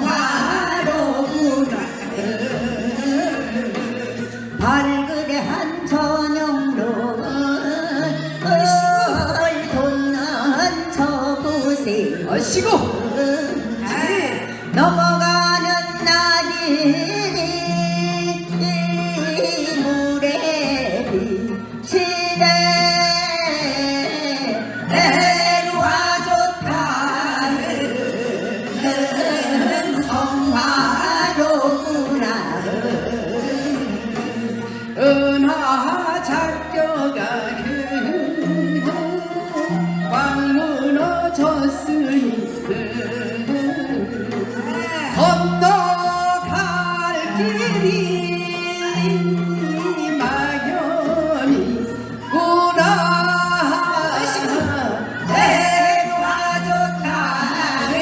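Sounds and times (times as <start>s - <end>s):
person singing folk song: 0.0s - 58.0s.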